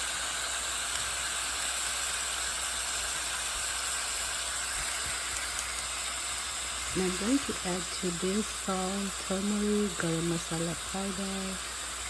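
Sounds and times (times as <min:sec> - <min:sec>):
vegetables frying in a pan: 0:00.0 - 0:12.0.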